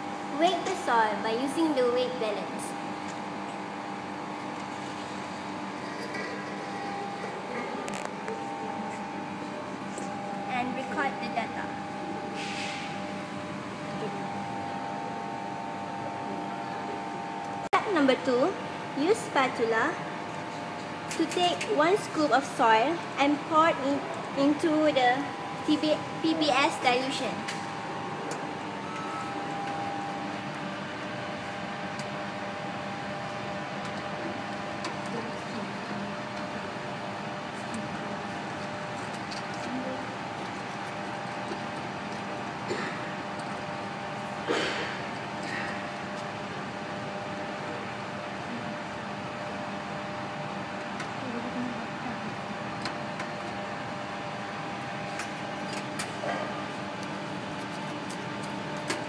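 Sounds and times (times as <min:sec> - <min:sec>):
blower fan humming: 0:00.0 - 0:59.0.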